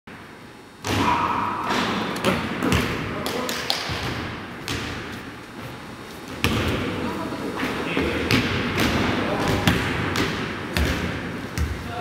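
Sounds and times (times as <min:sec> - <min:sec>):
footsteps in echoing hall: 0:01.9 - 0:12.0.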